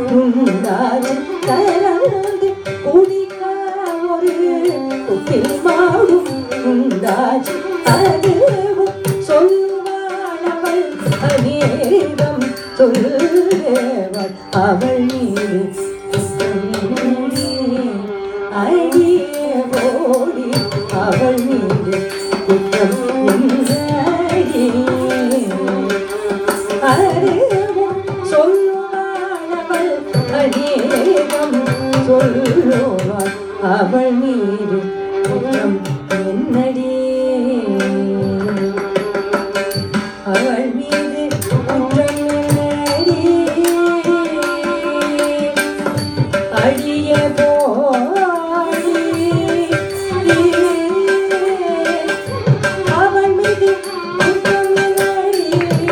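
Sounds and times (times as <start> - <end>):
person singing: 0.0 - 55.9
violin melody: 0.0 - 55.9.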